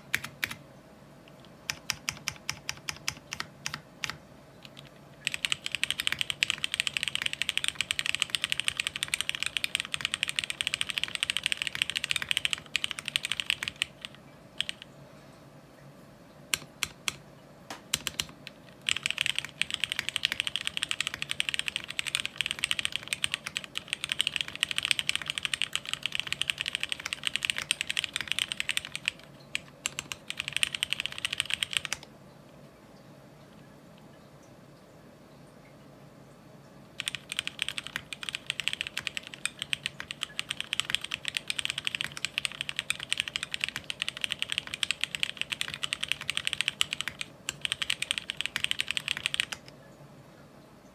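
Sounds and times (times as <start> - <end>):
mechanical keyboard typing: 0.0 - 0.6, 1.3 - 14.9, 16.5 - 32.1, 37.0 - 49.8.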